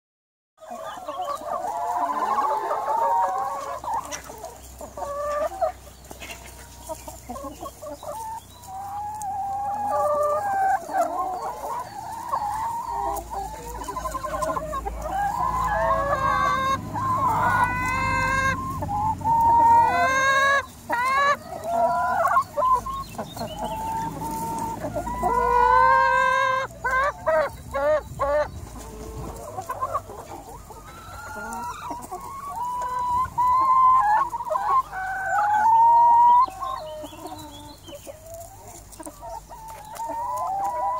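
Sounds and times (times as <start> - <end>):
hen drawn-out calls: 0.6 - 40.9
hens clucking: 0.6 - 40.9.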